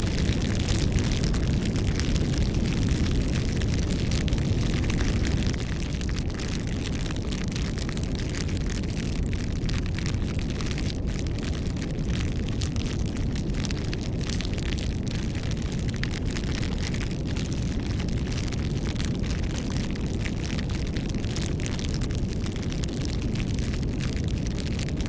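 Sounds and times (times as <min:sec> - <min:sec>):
rush of flame: 0:00.0 - 0:25.0
wood crackling and popping: 0:00.0 - 0:25.0.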